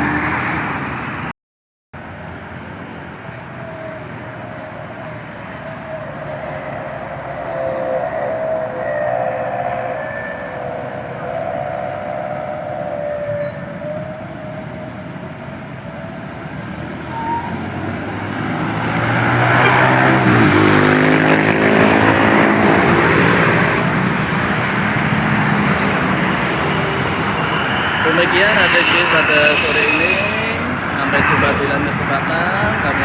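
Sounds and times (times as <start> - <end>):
bus driving past: 2.0 - 33.0.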